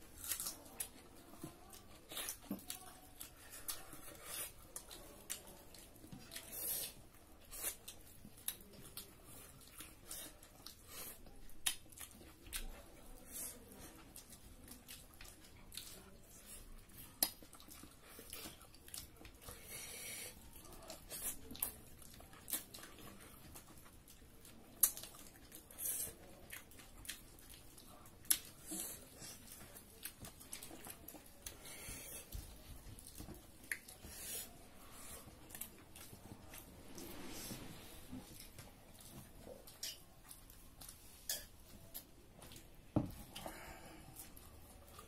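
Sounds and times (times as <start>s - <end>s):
chewing and lip smacks: 0.0s - 36.7s, 38.2s - 45.0s.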